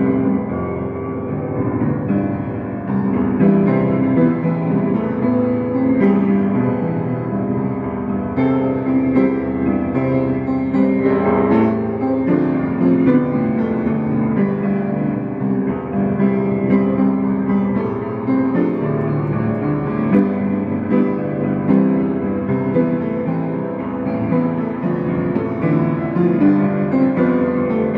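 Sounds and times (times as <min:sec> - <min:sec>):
solo piano playing: 0:00.0 - 0:27.9.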